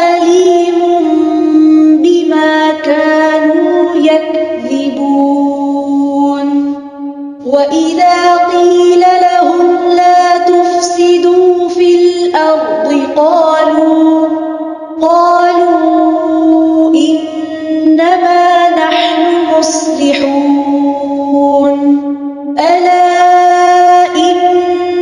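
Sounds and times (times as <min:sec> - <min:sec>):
person chanting recitation: 0:00.0 - 0:25.0.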